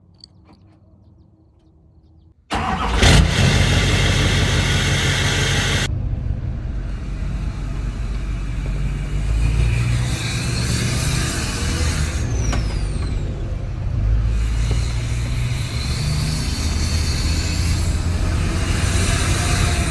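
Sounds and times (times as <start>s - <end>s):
loud hiss: 2.5s - 5.9s, 6.8s - 19.9s
diesel engine starting and idling: 2.5s - 19.9s.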